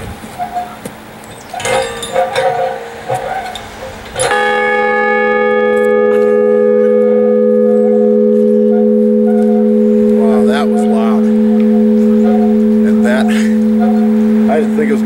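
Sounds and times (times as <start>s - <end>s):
ship's bell ringing: 1.6s - 15.0s.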